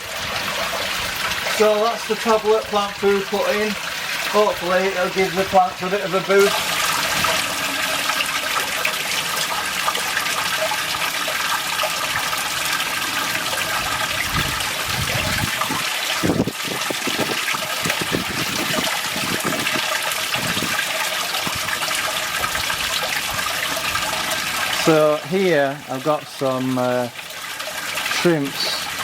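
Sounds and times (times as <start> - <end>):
running water trickling: 0.0 - 29.0.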